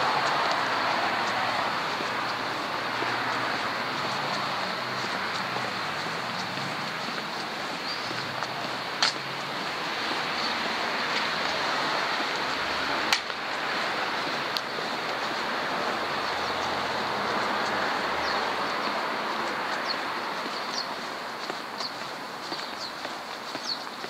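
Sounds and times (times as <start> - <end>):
street traffic hiss: 0.0 - 24.0.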